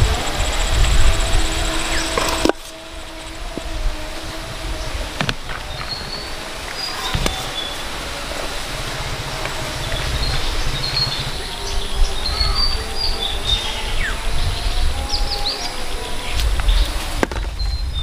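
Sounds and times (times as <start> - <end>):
low rumble: 0.0 - 15.2
small birds chirping: 0.0 - 18.0.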